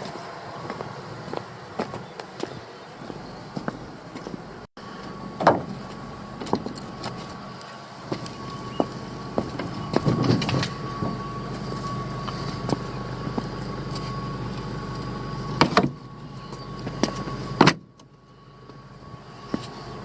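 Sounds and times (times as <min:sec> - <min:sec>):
engine knocks: 0:00.0 - 0:18.0
motor engine running with whine: 0:00.0 - 0:20.0.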